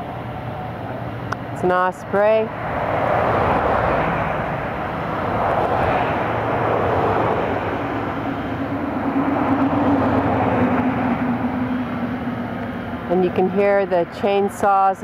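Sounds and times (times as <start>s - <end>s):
road traffic passing cars: 0.0s - 15.0s.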